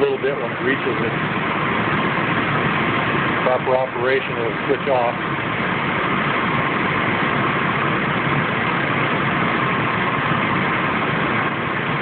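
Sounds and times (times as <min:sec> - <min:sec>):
air conditioning compressor running: 0:00.0 - 0:12.0
car engine idling: 0:00.0 - 0:12.0.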